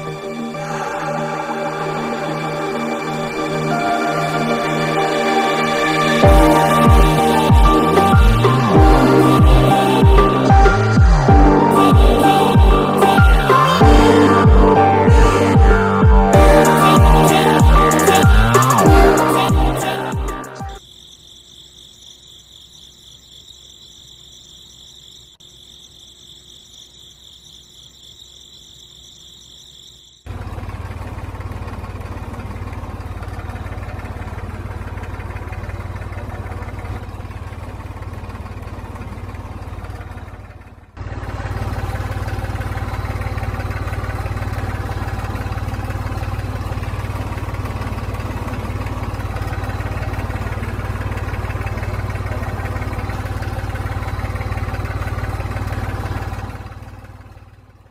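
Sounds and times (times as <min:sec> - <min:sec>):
crickets chirring: 0:00.0 - 0:11.0, 0:19.1 - 0:57.9
engine running: 0:00.0 - 0:20.8, 0:30.3 - 0:57.9.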